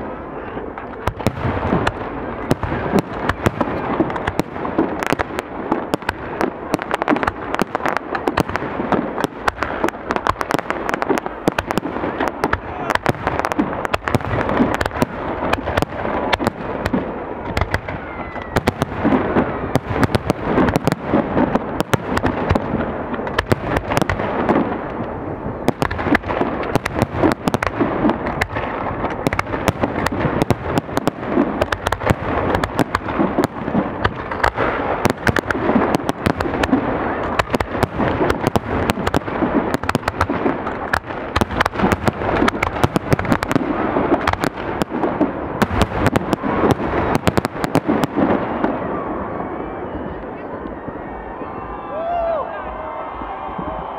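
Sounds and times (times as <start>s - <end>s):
fireworks cracking and banging: 0.0s - 53.9s.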